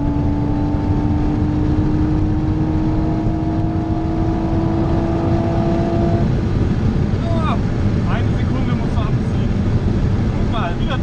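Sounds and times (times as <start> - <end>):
car engine running hard: 0.0 - 11.0
road and wind noise: 0.0 - 11.0.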